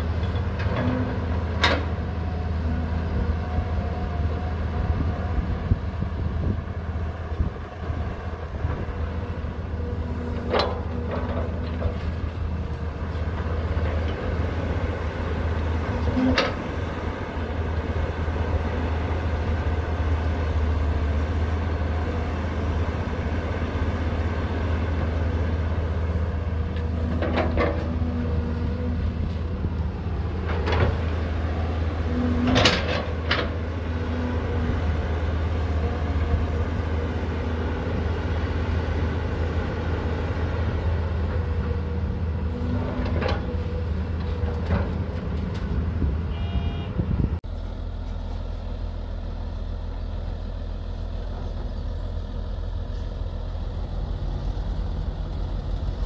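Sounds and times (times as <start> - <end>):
excavator diesel engine rumbling: 0.0 - 56.0.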